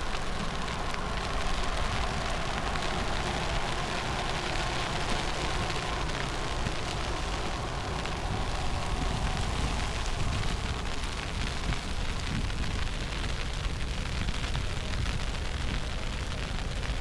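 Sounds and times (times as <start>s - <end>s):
fine ticking of snow: 0.0s - 17.0s
wind buffeting microphone: 0.0s - 17.0s.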